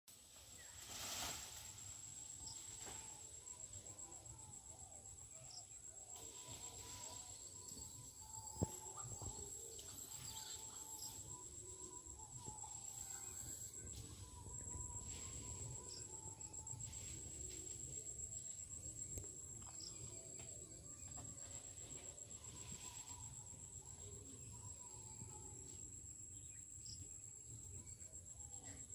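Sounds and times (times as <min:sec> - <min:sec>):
insect trill: 0:00.2 - 0:28.9.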